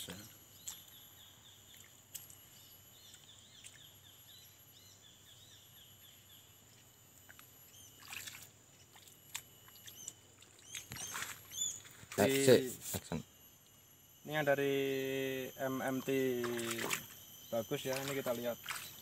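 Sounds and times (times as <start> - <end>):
bird chirping: 0.0 - 7.0, 7.6 - 9.0, 9.6 - 19.0
high-pitched whine: 0.0 - 19.0.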